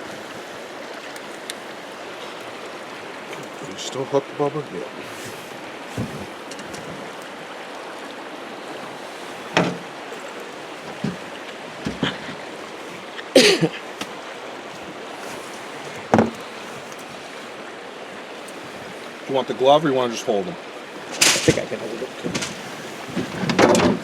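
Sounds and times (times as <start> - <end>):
river flowing: 0.0 - 24.0.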